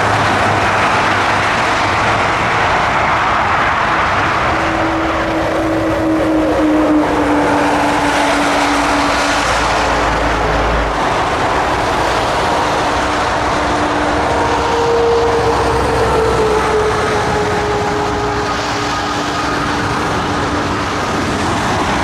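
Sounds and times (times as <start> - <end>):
high whine: 0.0 - 22.0
jet engines running: 0.0 - 22.0.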